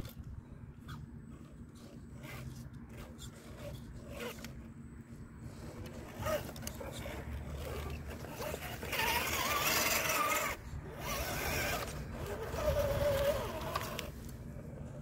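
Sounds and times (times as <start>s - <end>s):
electric motor and gears whirring: 0.0s - 15.0s
tyres and chassis scraping: 0.0s - 15.0s.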